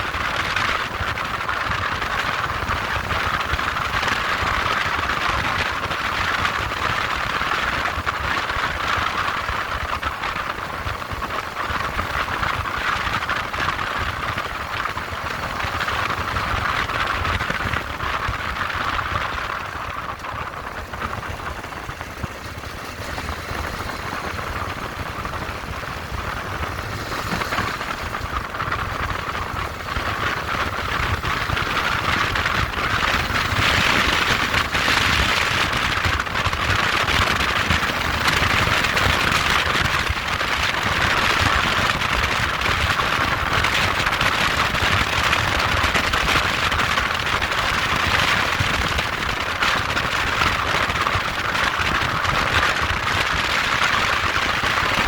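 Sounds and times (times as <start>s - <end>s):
moped engine running: 0.0s - 55.0s
rushing road noise: 0.0s - 55.0s.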